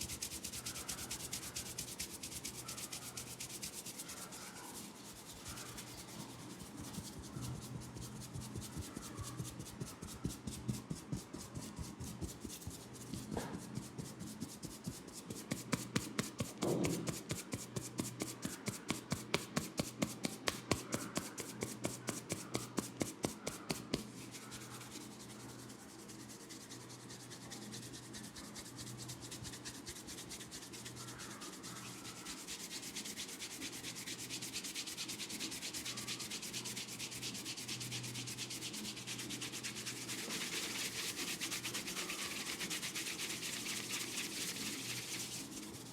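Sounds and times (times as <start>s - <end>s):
hands rubbing head: 0.0s - 45.9s.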